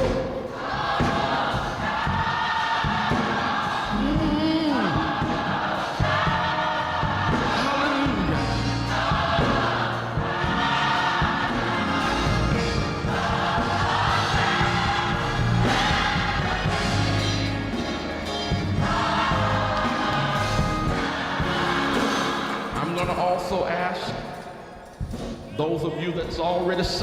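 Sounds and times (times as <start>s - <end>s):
band playing: 0.0s - 24.2s
choir singing: 0.0s - 25.0s.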